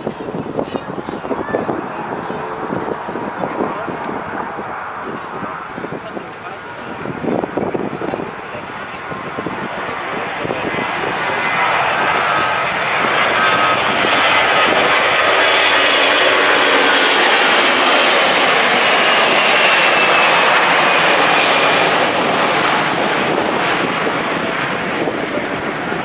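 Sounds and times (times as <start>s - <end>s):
jet engine whine falling in pitch: 0.0s - 26.0s
jet engines roaring: 0.0s - 26.0s.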